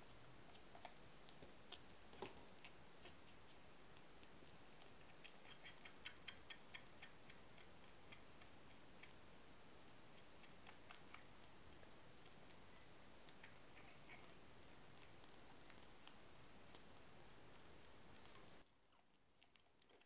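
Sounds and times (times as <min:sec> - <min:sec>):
kitten suckling at bottle: 0:00.0 - 0:20.0.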